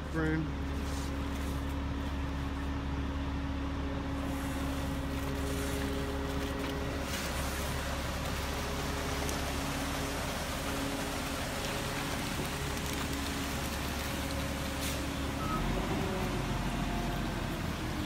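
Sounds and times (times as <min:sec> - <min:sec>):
truck engine droning: 0:00.0 - 0:18.0.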